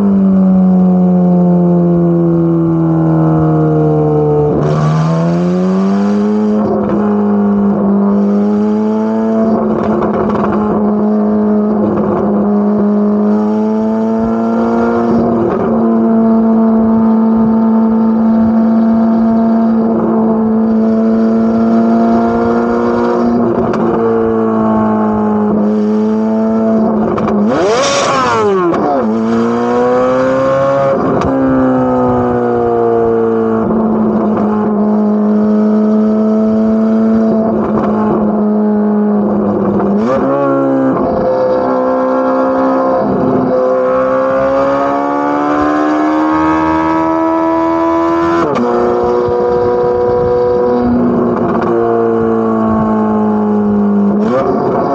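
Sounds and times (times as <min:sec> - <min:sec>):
sports car engine cruising: 0:00.0 - 0:54.9.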